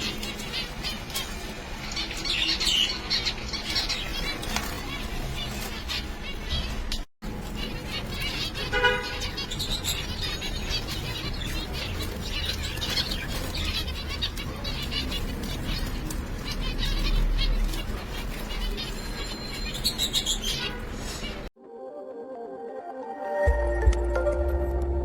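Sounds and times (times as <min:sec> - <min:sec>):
finches chirping: 0:00.0 - 0:21.4.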